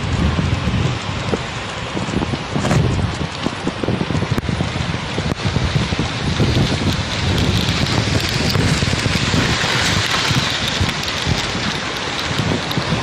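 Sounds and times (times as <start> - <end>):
wind buffeting microphone: 0.0 - 13.0
wind rushing: 0.0 - 13.0.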